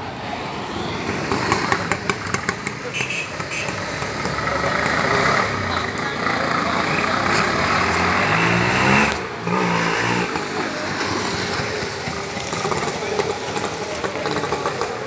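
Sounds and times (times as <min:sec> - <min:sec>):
auto-rickshaw engine revving: 0:00.0 - 0:15.0.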